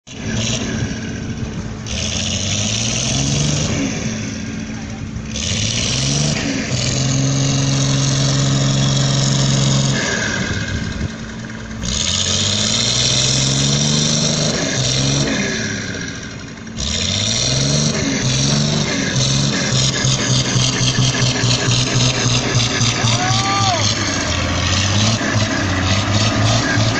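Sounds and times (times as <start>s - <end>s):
excavator diesel engine revving: 0.1s - 26.9s.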